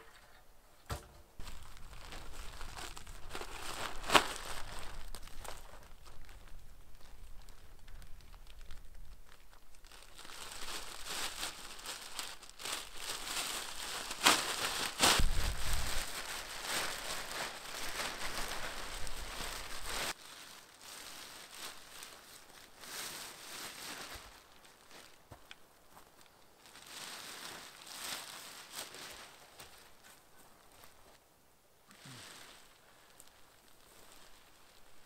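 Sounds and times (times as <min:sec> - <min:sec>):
plastic bags crinkling: 0:01.4 - 0:30.1, 0:32.0 - 0:35.0.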